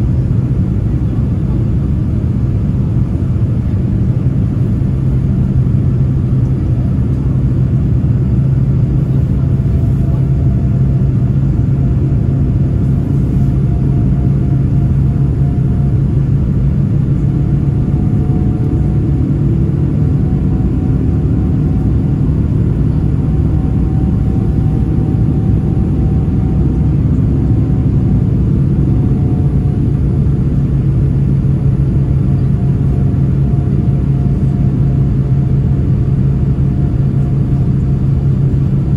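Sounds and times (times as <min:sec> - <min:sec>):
jet engine low rumble: 0:00.0 - 0:38.9.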